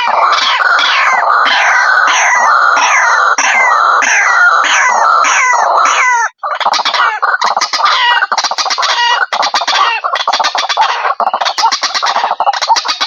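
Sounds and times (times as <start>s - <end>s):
bird calling and chattering: 0.0s - 13.0s.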